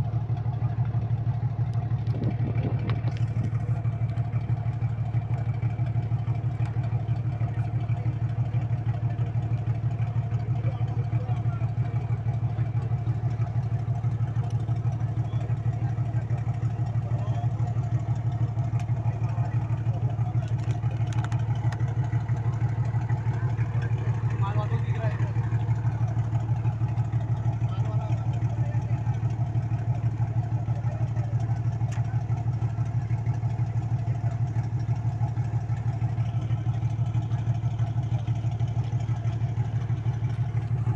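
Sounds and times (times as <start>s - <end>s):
diesel boat engine throbbing: 0.0s - 40.9s.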